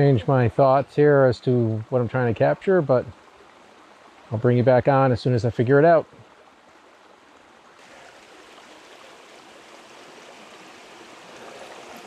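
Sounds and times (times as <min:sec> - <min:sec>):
creek running over rocks: 0:00.0 - 0:12.0.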